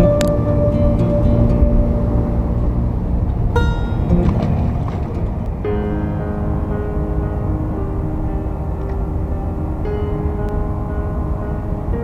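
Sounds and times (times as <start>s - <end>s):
acoustic guitar music: 0.0s - 12.0s
steady low rumble: 0.0s - 12.0s.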